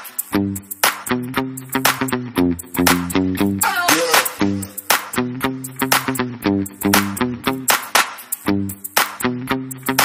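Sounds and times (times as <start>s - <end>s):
electronic background music: 0.0s - 10.0s.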